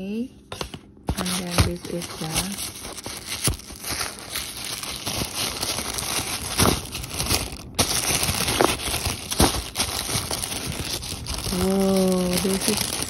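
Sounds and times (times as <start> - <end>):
tissue paper crinkling: 1.1 - 13.0.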